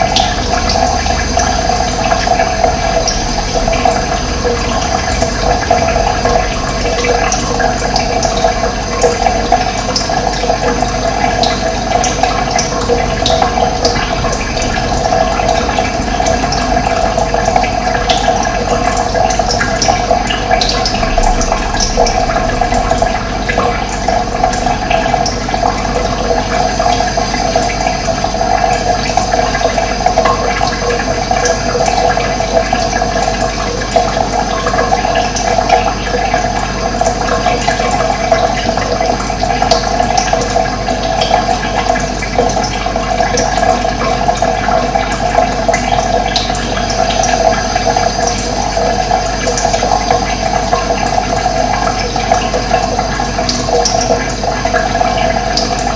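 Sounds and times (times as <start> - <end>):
running water flowing: 0.0 - 55.9.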